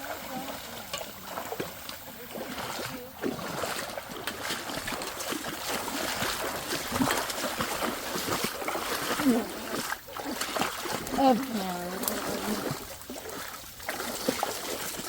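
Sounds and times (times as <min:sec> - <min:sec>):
creek water running: 0:00.0 - 0:15.0
splashes and scuffs: 0:00.0 - 0:15.0.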